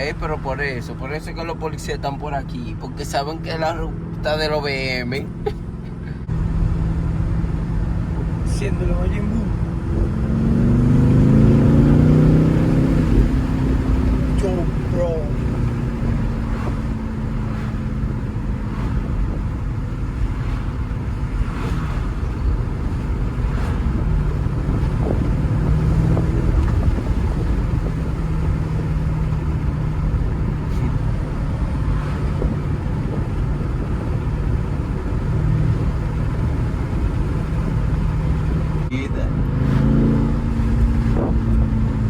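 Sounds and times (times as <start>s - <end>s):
car engine hum: 0.0s - 42.0s
road noise: 0.0s - 42.0s.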